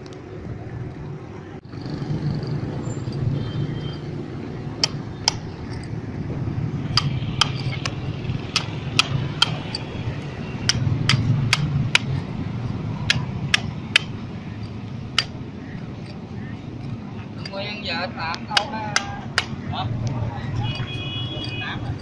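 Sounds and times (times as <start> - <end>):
hammer striking steel chisel: 2.3 - 19.7, 20.6 - 22.0.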